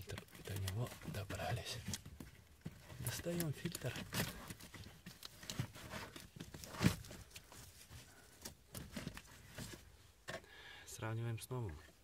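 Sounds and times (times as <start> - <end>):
filter scraping and rustling: 0.0 - 10.4.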